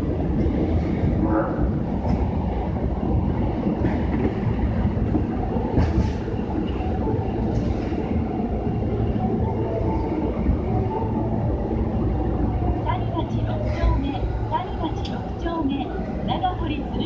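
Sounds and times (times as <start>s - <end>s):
subway car wheels and motors rumbling: 0.0s - 17.0s.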